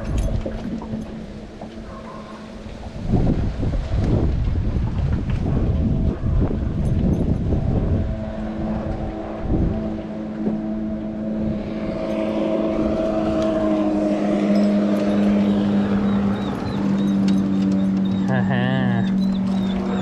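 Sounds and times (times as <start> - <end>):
boat motor humming: 0.0 - 20.0
wind buffeting microphone: 0.0 - 20.0.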